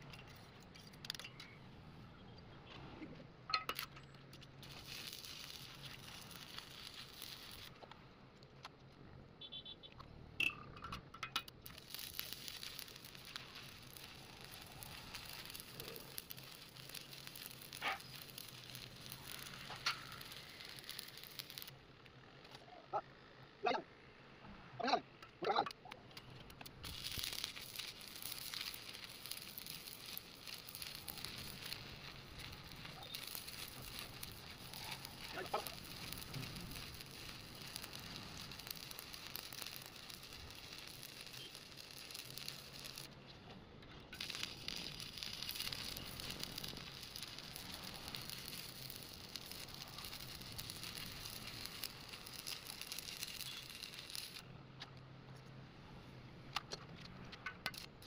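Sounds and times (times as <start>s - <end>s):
welding arc crackling: 3.5s - 8.8s, 9.4s - 22.6s, 24.8s - 55.5s, 56.5s - 58.0s.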